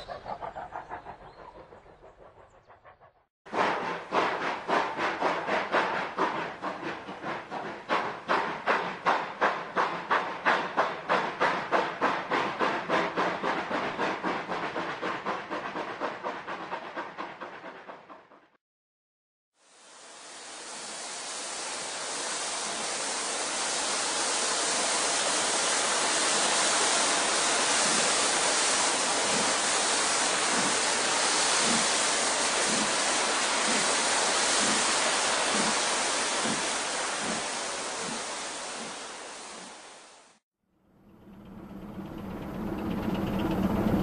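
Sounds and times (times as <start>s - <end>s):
train rushing past: 0.0s - 18.3s, 21.5s - 44.0s.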